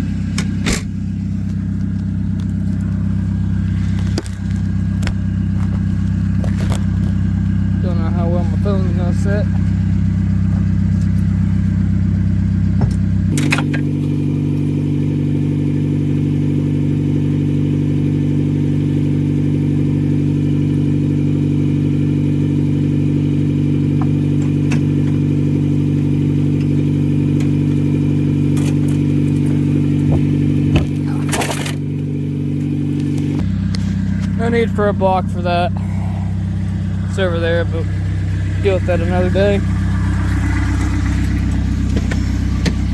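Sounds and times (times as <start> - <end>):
diesel car engine drone: 0.0 - 42.9.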